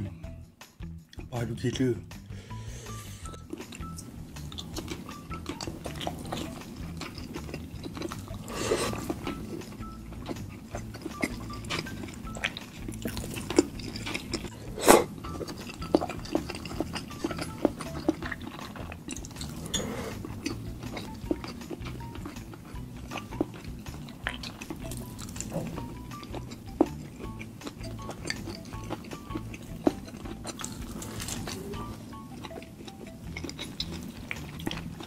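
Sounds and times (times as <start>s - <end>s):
soft background music: 0.0s - 35.0s
chewing chicken: 3.1s - 35.0s.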